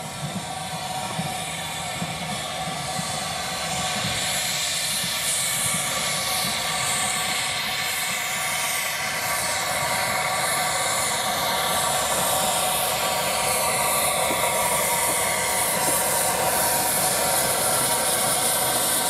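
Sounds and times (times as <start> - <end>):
carriages rumbling on track: 0.0 - 19.0
steam locomotive hissing: 0.0 - 19.0.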